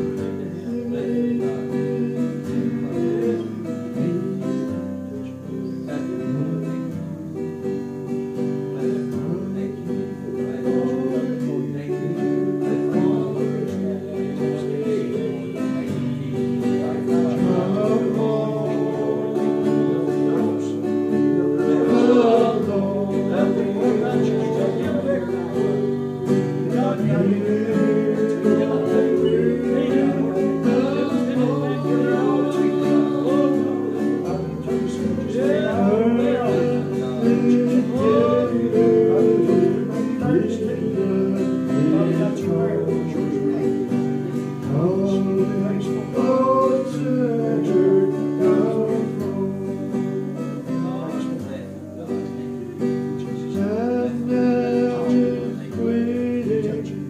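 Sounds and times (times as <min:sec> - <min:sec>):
guitar with bass line: 0:00.0 - 0:57.0
person singing: 0:00.0 - 0:57.0.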